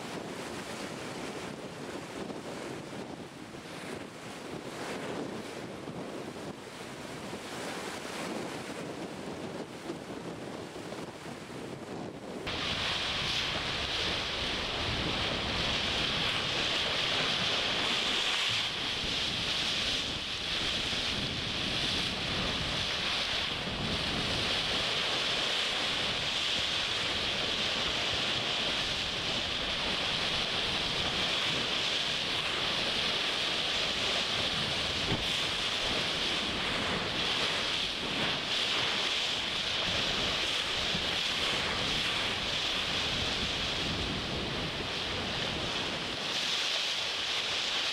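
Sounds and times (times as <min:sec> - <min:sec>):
water rushing along hull: 0:00.0 - 0:47.9
wind buffeting microphone: 0:00.0 - 0:47.9.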